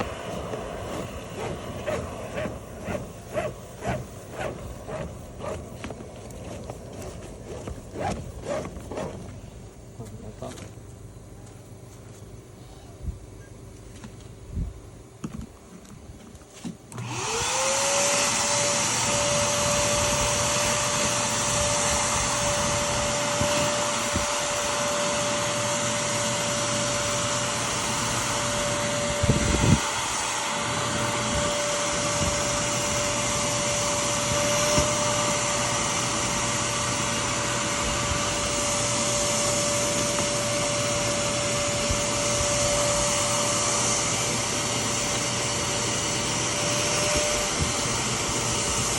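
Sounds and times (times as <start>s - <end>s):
vacuum motor whining: 0.0s - 9.6s, 16.9s - 48.9s.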